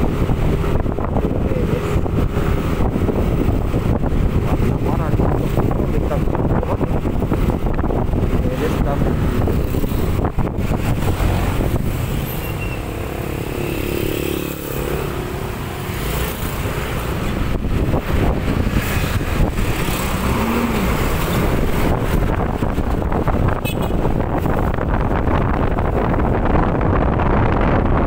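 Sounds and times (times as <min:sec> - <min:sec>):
road and traffic noise: 0:00.0 - 0:28.0
wind rushing over microphone: 0:00.0 - 0:28.0.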